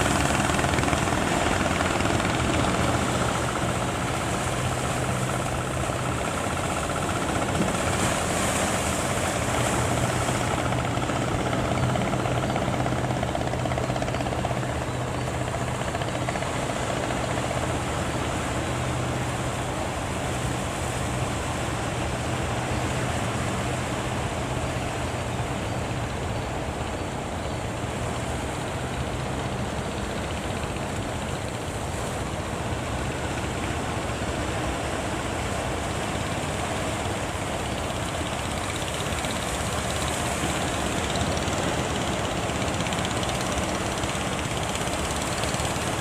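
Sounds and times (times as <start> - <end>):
boat engine humming: 0.0 - 46.0
waves washing: 0.0 - 46.0.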